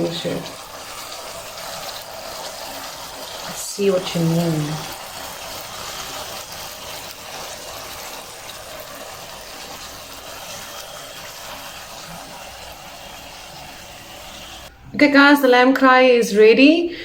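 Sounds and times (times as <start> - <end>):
meat sizzling and bubbling in a pan: 0.0 - 14.7.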